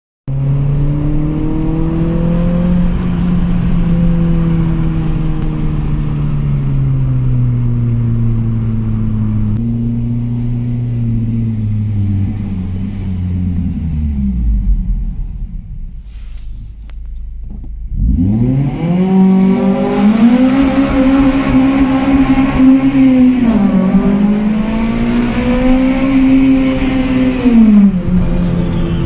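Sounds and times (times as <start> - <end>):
loud car engine exhaust: 0.3 - 17.0, 17.9 - 29.0.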